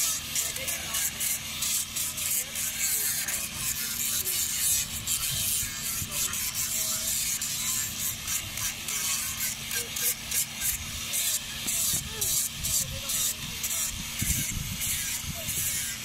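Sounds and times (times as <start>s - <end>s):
power sander rasping on wood: 0.0s - 16.0s
tool motor hum: 0.0s - 16.0s.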